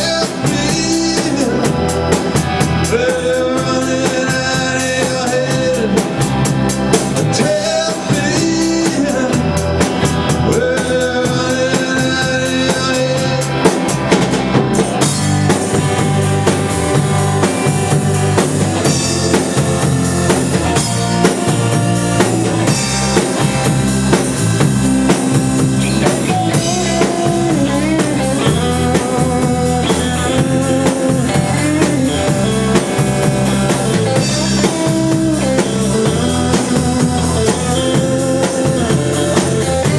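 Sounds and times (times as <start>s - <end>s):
drum kit: 0.0s - 39.9s
guitar: 0.0s - 39.9s
live rock band playing: 0.0s - 39.9s.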